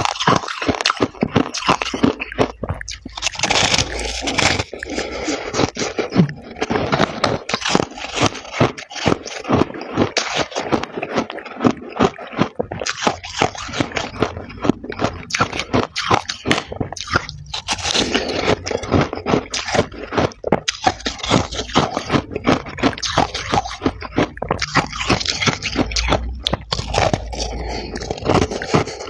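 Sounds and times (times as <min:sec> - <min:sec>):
frost crunching in mouth: 0:00.0 - 0:29.0.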